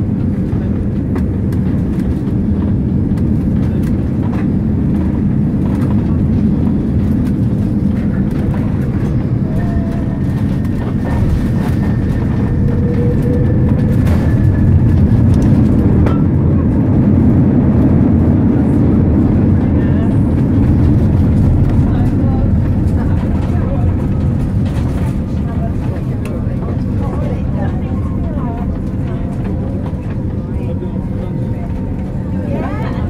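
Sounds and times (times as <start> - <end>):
aircraft cabin rumble: 0.0 - 33.0.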